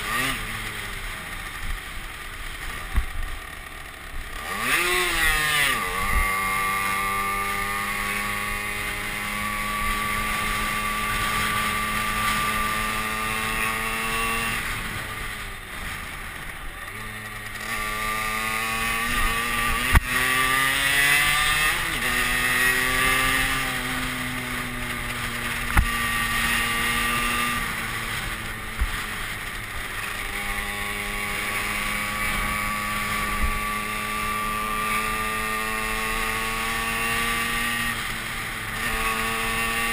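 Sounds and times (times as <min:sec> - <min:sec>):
moped engine: 0:00.0 - 0:39.9.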